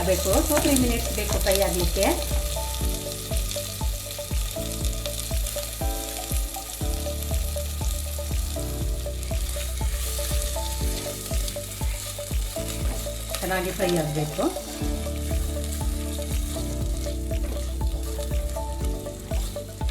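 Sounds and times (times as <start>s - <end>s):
onions sizzling in a pan: 0.0s - 19.8s
background music with a beat: 0.0s - 19.9s.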